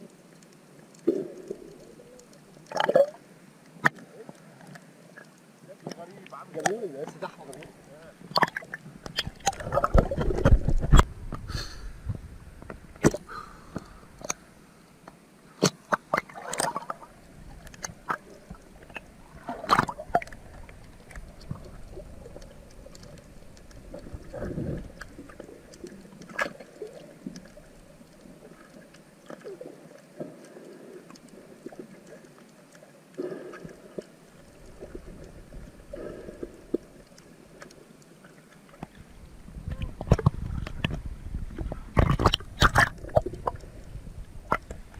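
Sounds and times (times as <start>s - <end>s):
water splashing and gurgling: 0.0s - 44.9s.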